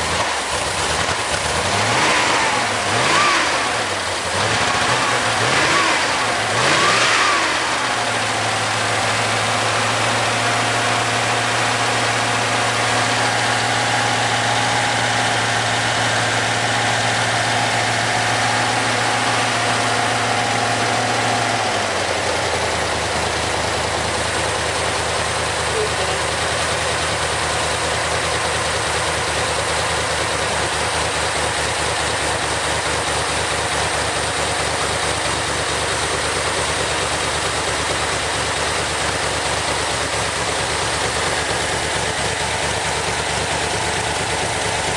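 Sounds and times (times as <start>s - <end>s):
car engine revving and idling: 0.0s - 44.9s.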